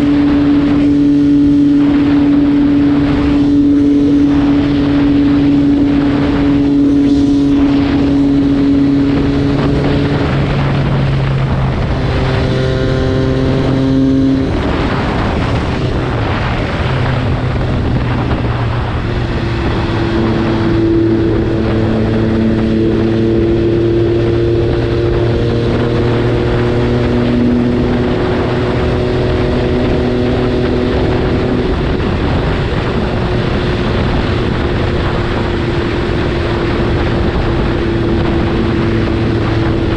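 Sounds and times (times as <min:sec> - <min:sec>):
motorcycle engine running: 0:00.0 - 0:39.9
rushing background noise: 0:00.0 - 0:39.9.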